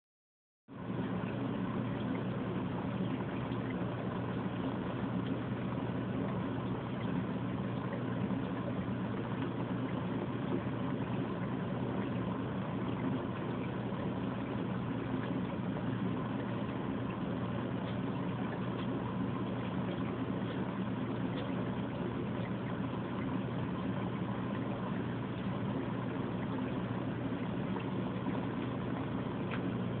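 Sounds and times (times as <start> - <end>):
aquarium pump humming: 0.7 - 30.0
faint moving water: 0.7 - 30.0.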